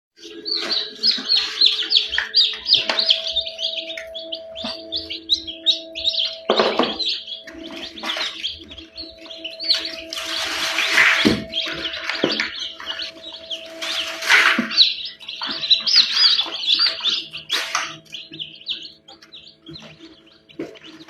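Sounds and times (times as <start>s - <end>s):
steady hum: 0.2s - 19.8s
chicks peeping: 0.2s - 21.0s.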